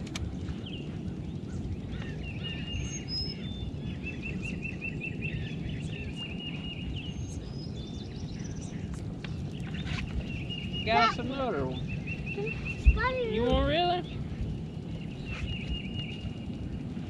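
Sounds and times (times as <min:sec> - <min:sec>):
low rumble: 0:00.0 - 0:17.0
birds chirping and whistling: 0:00.2 - 0:17.0.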